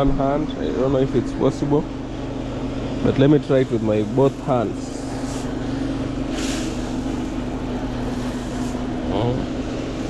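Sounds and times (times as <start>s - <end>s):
grinding mill humming: 0.0s - 10.0s.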